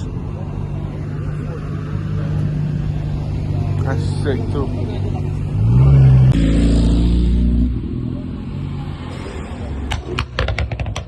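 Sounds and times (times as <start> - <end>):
car engine revving: 0.3 - 10.9.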